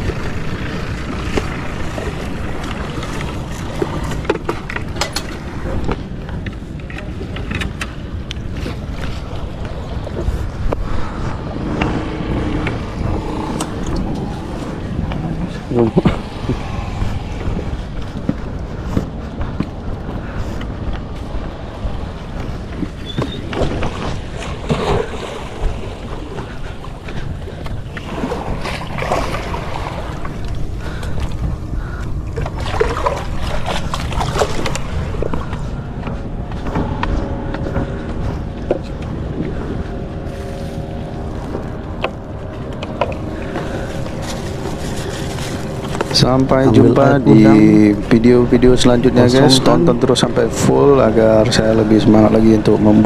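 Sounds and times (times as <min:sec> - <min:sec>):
low motor hum: 0:00.0 - 0:53.0
wind rumbling on microphone: 0:00.0 - 0:53.0.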